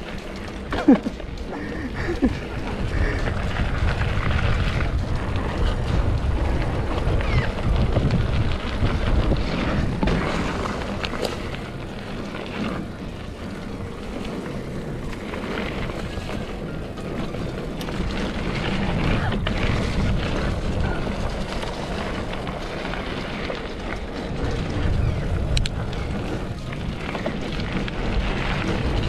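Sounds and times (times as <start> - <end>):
bike clicks and rattles: 0.0 - 29.0
tyre noise on dirt: 0.0 - 29.0
wind buffeting microphone: 0.0 - 29.0.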